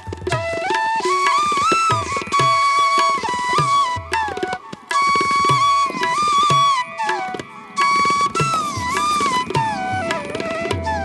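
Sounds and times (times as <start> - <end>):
bamboo flute melody: 0.0 - 11.0
tabla-like drum strokes: 0.0 - 11.0.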